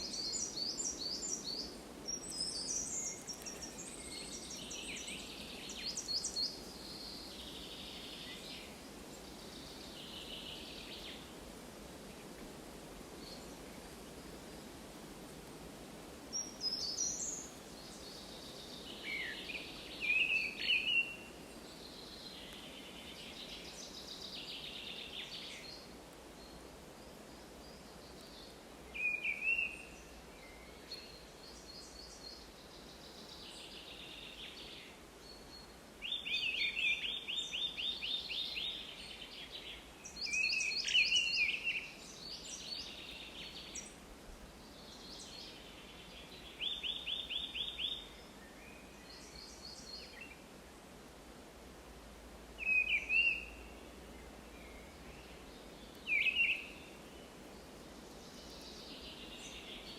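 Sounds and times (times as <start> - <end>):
faint background hiss: 0.0 - 59.9.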